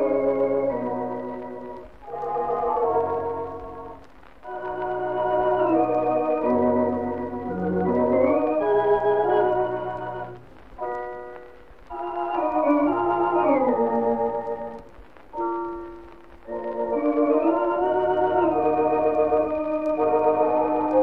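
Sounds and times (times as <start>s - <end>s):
theatre pipe organ playing: 0.0s - 14.8s, 16.5s - 21.0s.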